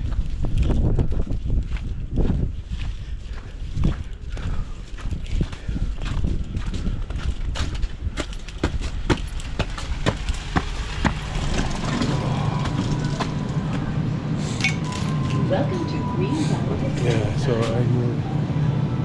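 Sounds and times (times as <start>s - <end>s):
footsteps walking: 0.0s - 17.8s
low hum with high tone: 0.0s - 19.0s.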